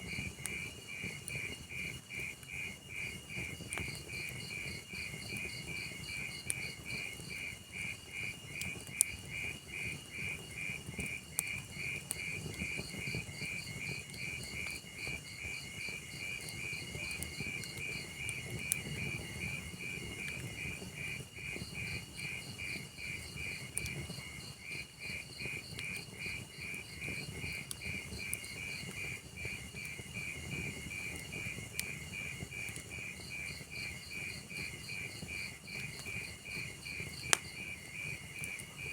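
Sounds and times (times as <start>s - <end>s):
wood fire crackling: 0.0s - 38.9s
crickets chirping: 0.1s - 38.9s.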